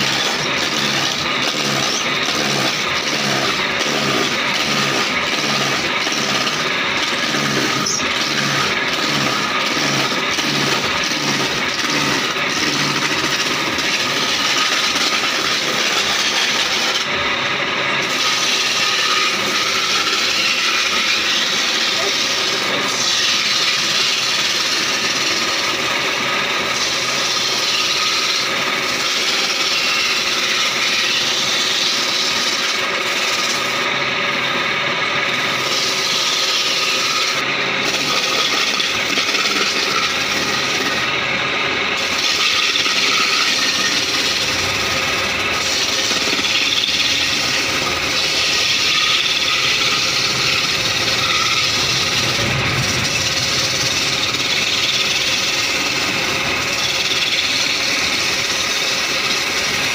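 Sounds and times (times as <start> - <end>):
chisel scraping spinning wood: 0.0 - 59.9
wood lathe humming: 0.0 - 59.9.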